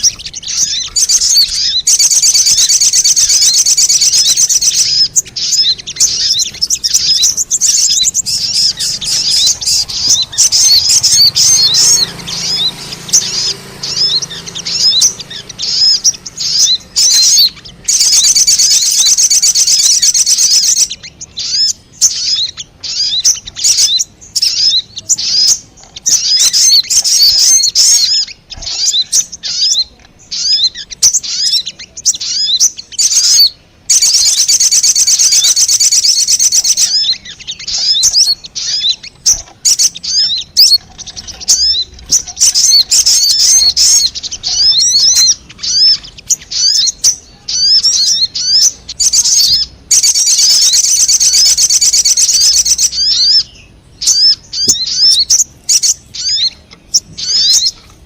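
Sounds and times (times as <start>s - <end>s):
fast bird trilling: 0.0s - 57.9s
bird chirps and twitters: 0.0s - 58.0s.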